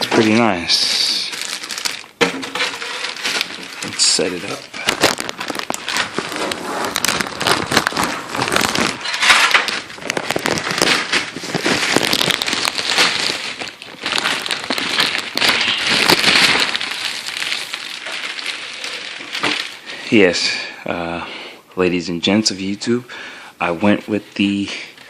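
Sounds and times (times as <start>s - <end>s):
packing material crackling: 0.0s - 20.2s.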